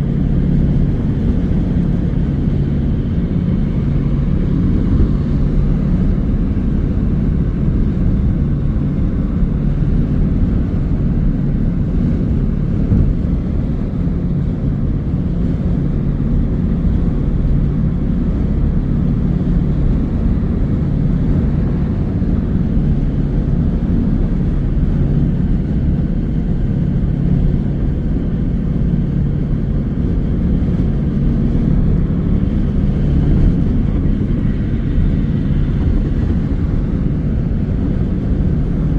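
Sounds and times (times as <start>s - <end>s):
car interior road and engine drone: 0.0s - 38.9s.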